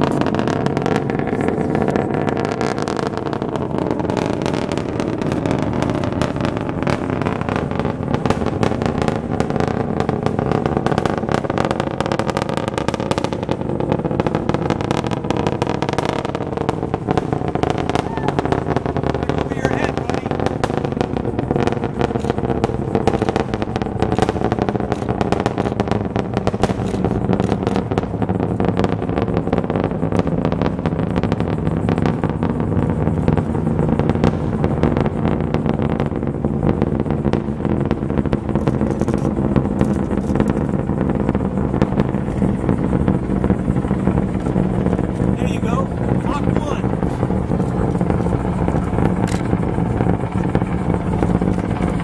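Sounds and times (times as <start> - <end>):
rocket engine rumble with crackling: 0.0 - 52.0.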